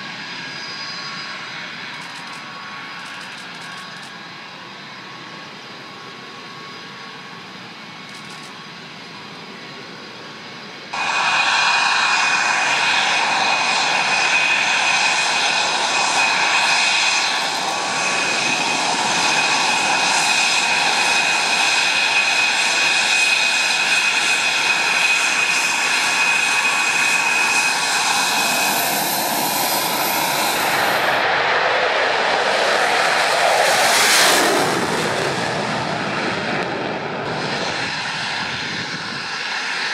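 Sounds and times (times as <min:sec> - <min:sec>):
jet engine whining: 0:00.0 - 0:39.9
jet taking off roar: 0:00.0 - 0:39.9.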